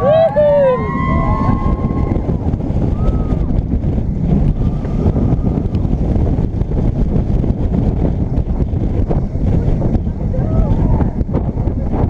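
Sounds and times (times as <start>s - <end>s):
roller coaster rumble: 0.0s - 12.0s
wind buffeting microphone: 0.0s - 12.0s.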